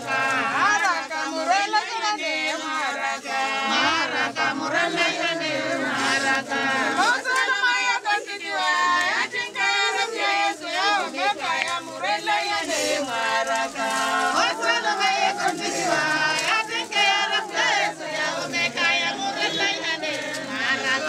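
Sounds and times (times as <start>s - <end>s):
group wailing lament: 0.0s - 8.0s, 8.6s - 21.0s.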